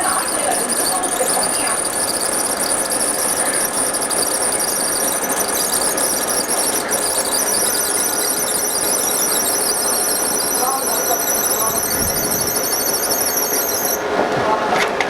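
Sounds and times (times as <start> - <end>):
machine high-pitched squeal: 0.0 - 14.1.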